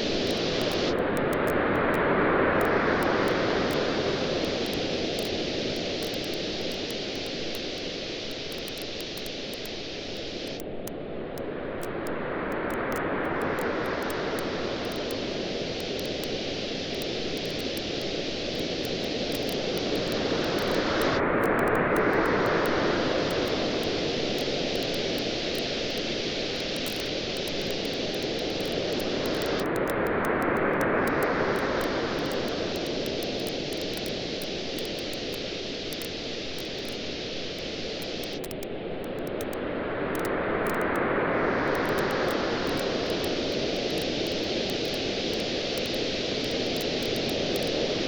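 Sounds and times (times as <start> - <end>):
ocean surf: 1.6 - 7.2, 13.0 - 38.9, 39.6 - 48.0
campfire crackling: 2.7 - 10.8, 12.7 - 39.6, 41.7 - 47.8.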